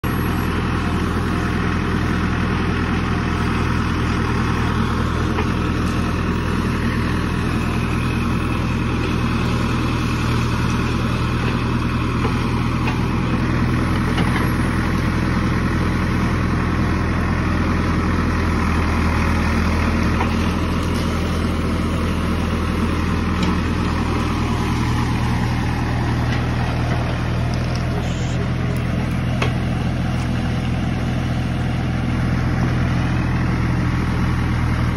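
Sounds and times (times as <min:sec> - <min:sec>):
diesel engine running: 0:00.0 - 0:34.9
backhoe digging in wet mud: 0:00.1 - 0:33.4.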